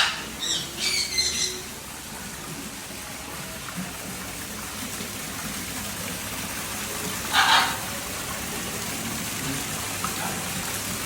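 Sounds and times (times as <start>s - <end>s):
running water: 0.0s - 11.0s.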